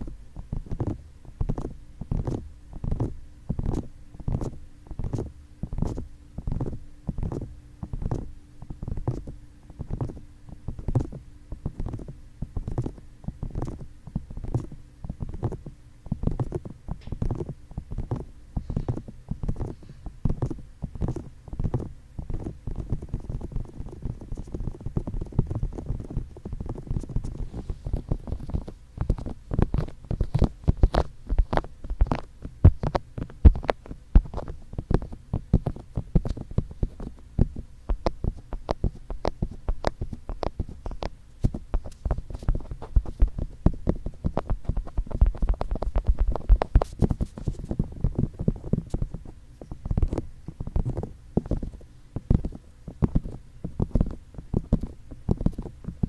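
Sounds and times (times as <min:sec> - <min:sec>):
fingertips tapping on microphone: 0:00.0 - 0:56.0
low rumble of hand contact: 0:00.0 - 0:56.0.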